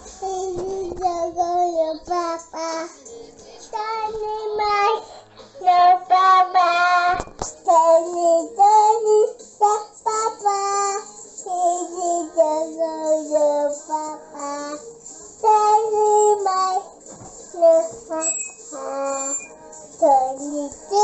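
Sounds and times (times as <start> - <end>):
child singing into microphone: 0.0 - 3.0, 3.7 - 5.0, 5.6 - 14.8, 15.4 - 16.9, 17.5 - 21.0.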